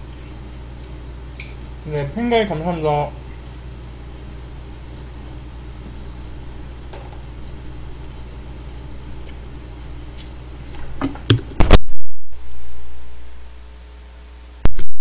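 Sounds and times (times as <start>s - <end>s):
low hum and hiss: 0.0s - 14.9s.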